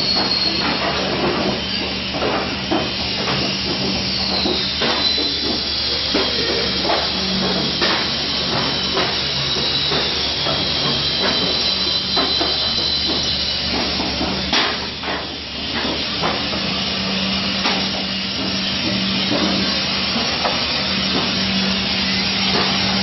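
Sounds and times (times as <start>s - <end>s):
machinery hiss: 0.0s - 23.0s.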